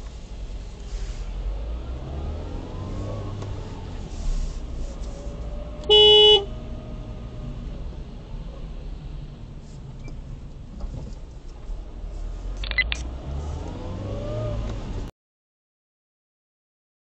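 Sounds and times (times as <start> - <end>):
road and engine rumble: 0.0 - 15.1.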